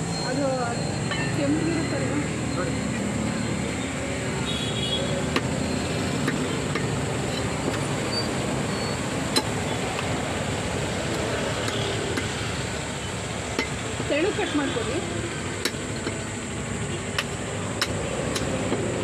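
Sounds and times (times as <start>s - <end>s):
steady background din: 0.0s - 19.0s.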